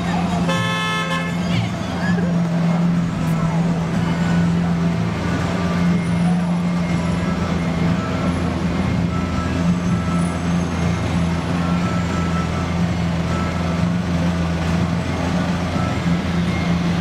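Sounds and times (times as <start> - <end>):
vehicle engines idling: 0.0 - 17.0.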